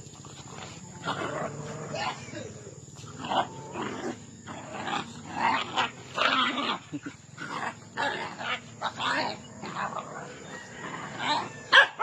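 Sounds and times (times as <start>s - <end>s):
dogs barking and snarling: 0.0s - 12.0s.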